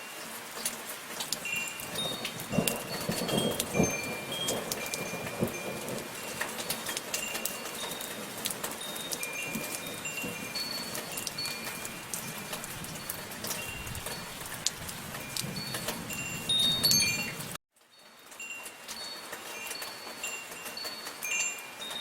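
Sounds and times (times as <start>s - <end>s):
rain pattering: 0.0s - 22.0s
wind chimes ringing: 1.4s - 22.0s.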